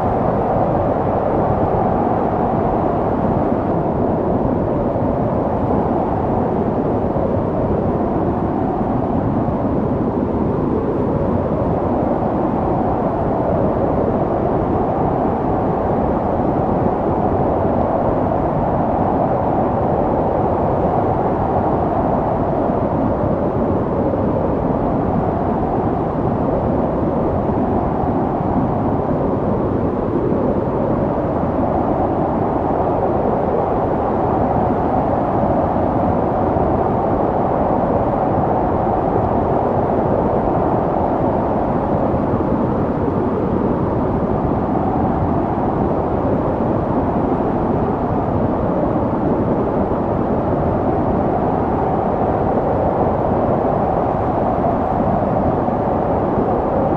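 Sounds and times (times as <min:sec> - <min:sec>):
snowstorm wind blowing: 0:00.0 - 0:56.9.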